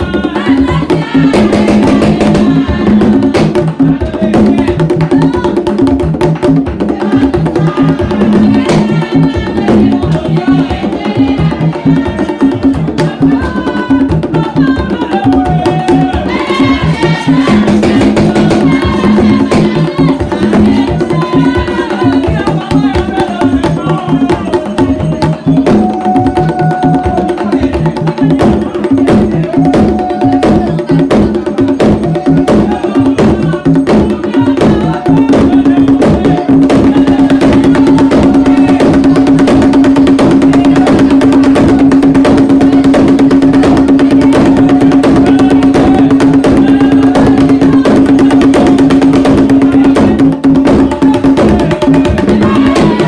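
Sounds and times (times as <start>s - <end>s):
drumming: 0.0s - 53.0s
voices singing: 0.0s - 53.0s.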